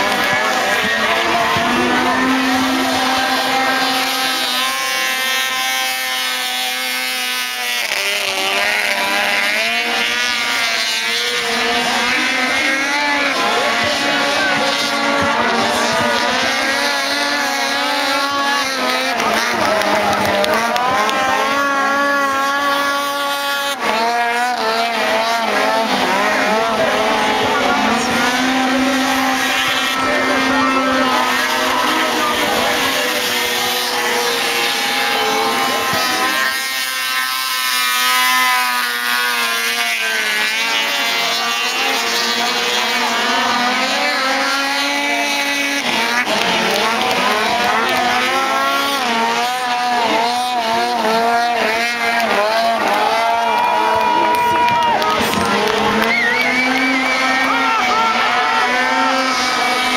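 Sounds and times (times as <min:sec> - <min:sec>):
snowmobile engines racing: 0:00.0 - 0:59.9.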